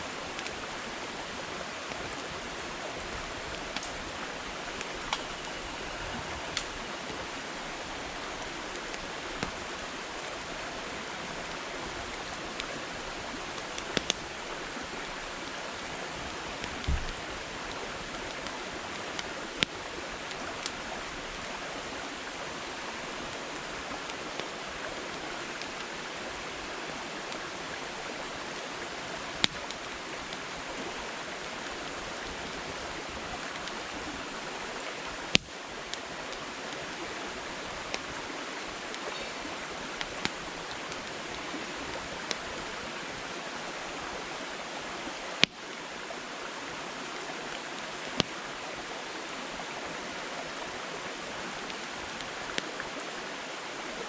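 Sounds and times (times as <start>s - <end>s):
campfire flame hissing: 0.0s - 54.0s
firewood crackling and popping: 0.2s - 43.0s, 44.4s - 46.1s, 47.5s - 48.6s, 51.4s - 52.8s.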